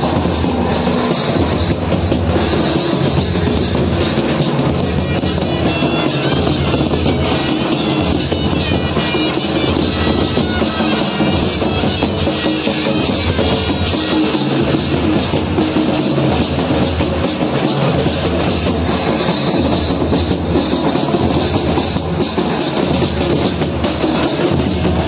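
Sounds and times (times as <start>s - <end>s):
loud music with drum beat: 0.0s - 25.0s.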